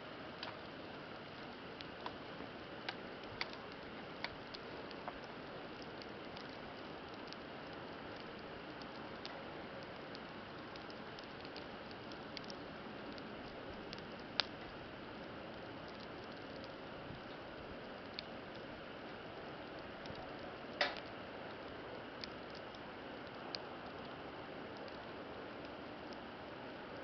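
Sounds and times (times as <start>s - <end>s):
campfire hissing: 0.0s - 27.0s
crackles and pops of burning wood: 0.1s - 27.0s.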